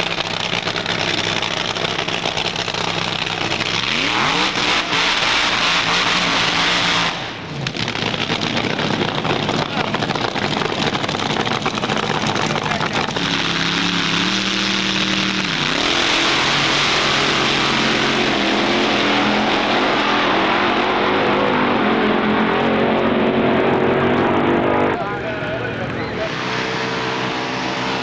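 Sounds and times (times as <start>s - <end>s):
drag car engine revving: 0.0s - 28.0s.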